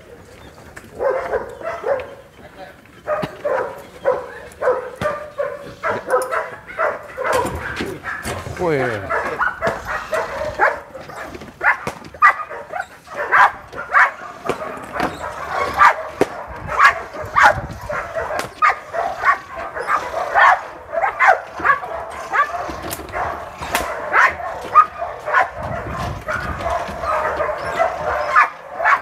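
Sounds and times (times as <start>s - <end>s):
dog barking: 0.9s - 2.2s, 3.0s - 29.0s.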